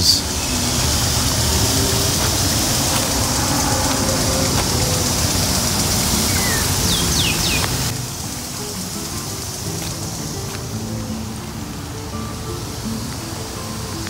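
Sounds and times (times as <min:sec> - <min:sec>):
lawn sprinklers hissing: 0:00.0 - 0:14.0
road traffic rumble: 0:00.0 - 0:14.0.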